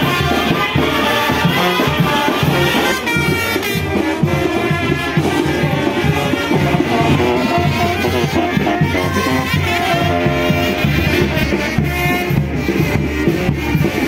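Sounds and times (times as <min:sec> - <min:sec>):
bass drum beat: 0:00.0 - 0:14.0
saxophones and trumpets: 0:00.0 - 0:14.0
sousaphones playing bass line: 0:00.0 - 0:14.0.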